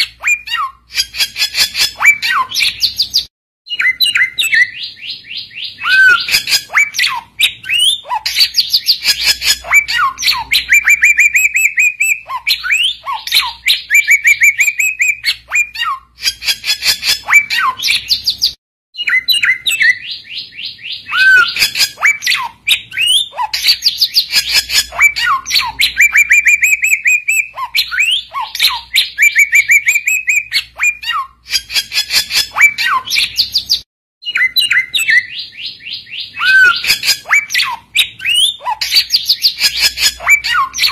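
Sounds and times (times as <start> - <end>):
songbird singing: 0.2 - 40.9.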